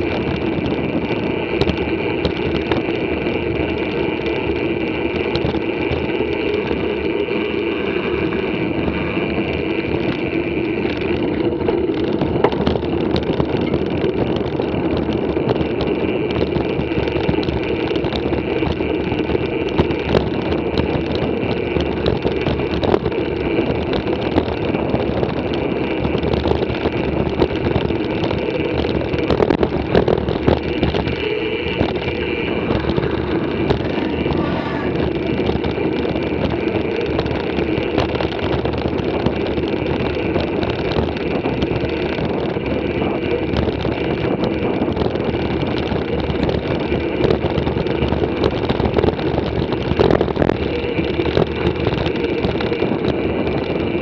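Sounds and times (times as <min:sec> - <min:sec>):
bike knocks and rattles: 0:00.0 - 0:06.9, 0:08.2 - 0:54.0
bike rolling on concrete: 0:00.0 - 0:54.0.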